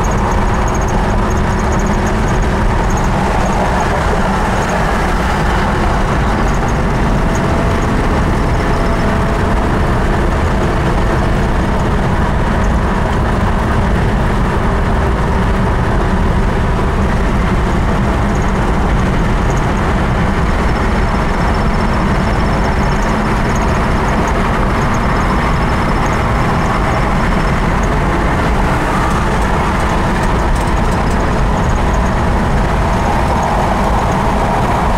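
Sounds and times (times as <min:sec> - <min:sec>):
car engine rumble: 0:00.0 - 0:34.9
tyres on road: 0:00.0 - 0:34.9
wind noise: 0:00.0 - 0:34.9.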